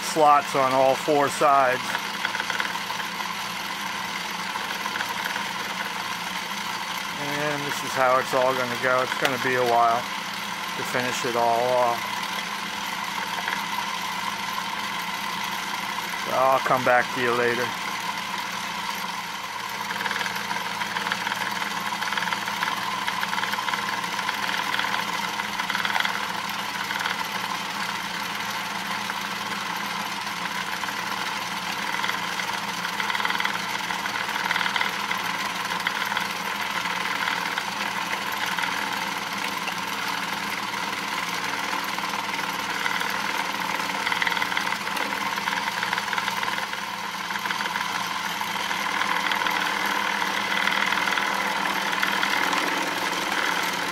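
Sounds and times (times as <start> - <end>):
lathe motor hum: 0.0 - 53.9
router bit cutting metal: 0.0 - 53.9.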